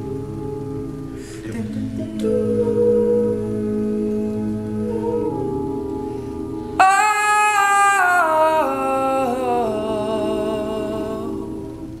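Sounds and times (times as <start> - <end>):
high lead voice singing: 0.0 - 12.0
men singing a cappella harmony: 0.0 - 12.0.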